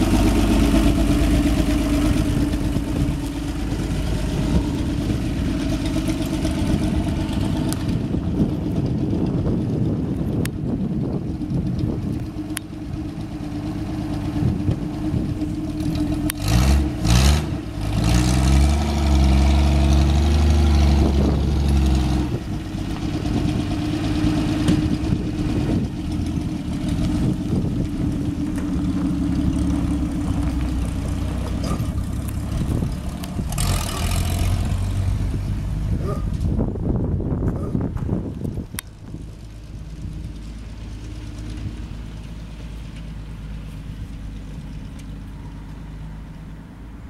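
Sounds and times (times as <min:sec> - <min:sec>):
pickup truck engine running: 0:00.0 - 0:47.0.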